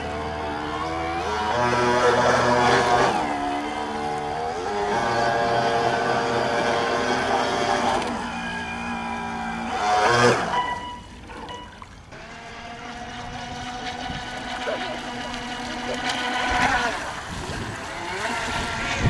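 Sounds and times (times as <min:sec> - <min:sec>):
model boat motor running: 0:00.0 - 0:19.0.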